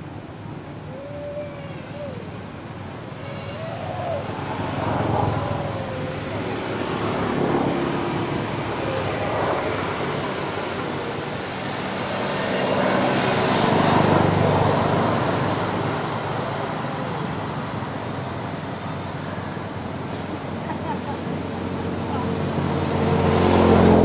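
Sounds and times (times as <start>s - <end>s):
road traffic noise: 0.0s - 24.0s
vehicle passing: 2.7s - 24.0s.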